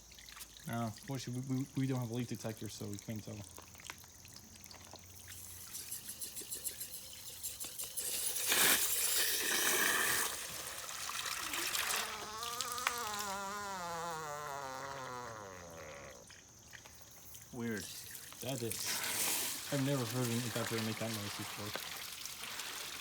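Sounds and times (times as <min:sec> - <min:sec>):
water splashing on metal coil: 0:00.0 - 0:13.3, 0:16.7 - 0:23.0.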